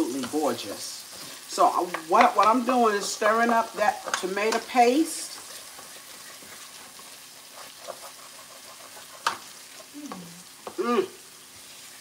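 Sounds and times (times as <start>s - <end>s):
utensil scraping a pan: 0.0s - 10.0s
tomatoes sizzling in a pan: 0.0s - 12.0s.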